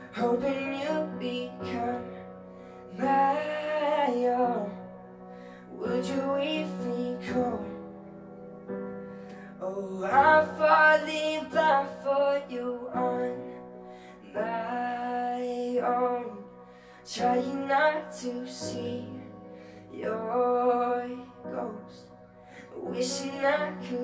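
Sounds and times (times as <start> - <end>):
keyboard chords: 0.0 - 24.0
young man singing a ballad: 0.0 - 24.0.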